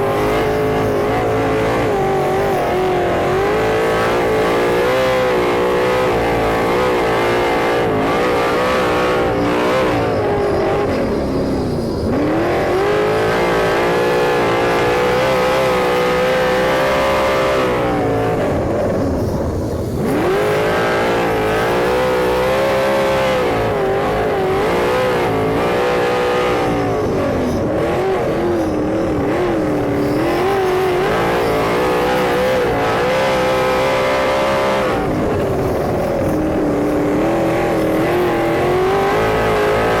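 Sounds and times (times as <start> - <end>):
racing car engine: 0.0 - 40.0.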